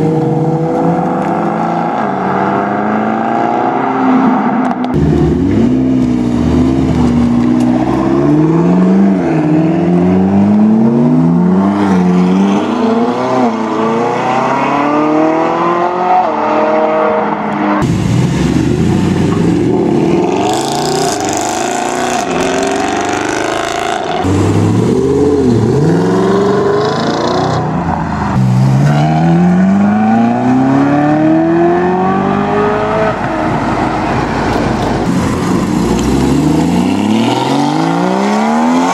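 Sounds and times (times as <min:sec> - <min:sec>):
car engines revving and accelerating: 0:00.0 - 0:38.9.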